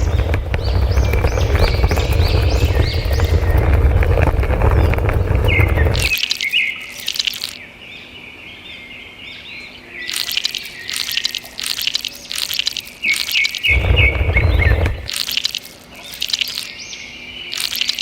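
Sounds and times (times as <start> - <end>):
birds chirping and singing: 0.0 - 18.0.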